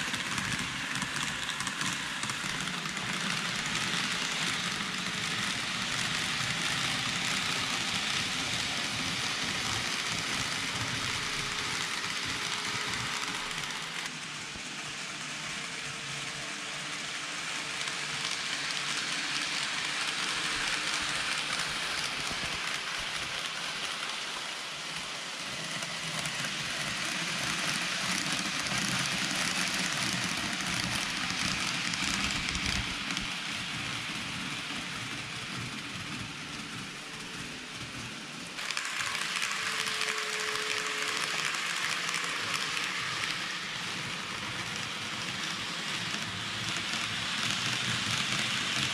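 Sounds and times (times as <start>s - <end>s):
model train wheels rolling on rails: 0.0s - 48.9s.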